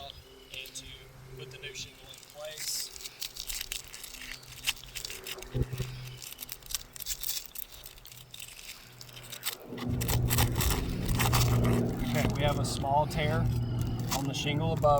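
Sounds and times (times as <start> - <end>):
faint low hum: 0.0 - 14.9
pry bar scraping shingles: 2.2 - 14.9.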